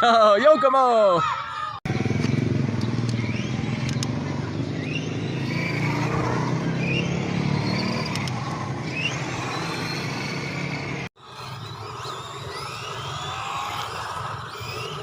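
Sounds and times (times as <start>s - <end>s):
radio-controlled cars driving: 1.2s - 15.0s
high motor whine: 1.9s - 15.0s.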